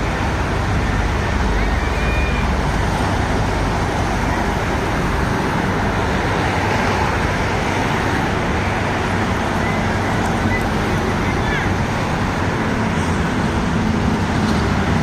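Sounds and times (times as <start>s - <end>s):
road traffic rushing past: 0.0s - 15.0s.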